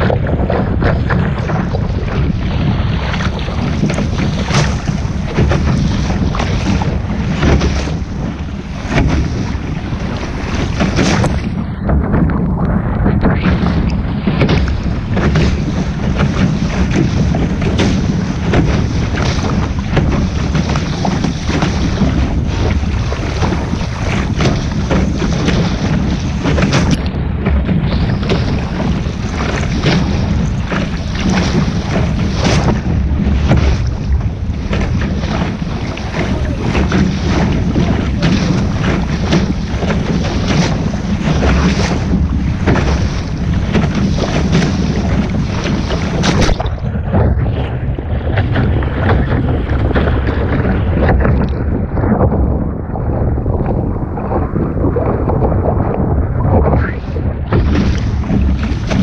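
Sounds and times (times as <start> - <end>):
water splashing against hull: 0.0 - 59.0
wind buffeting microphone: 0.0 - 59.0.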